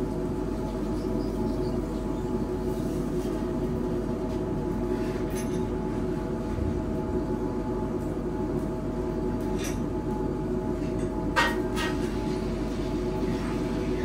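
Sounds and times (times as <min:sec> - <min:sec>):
low mechanical rumble: 0:00.0 - 0:14.0
multi-tone hum: 0:00.0 - 0:14.0.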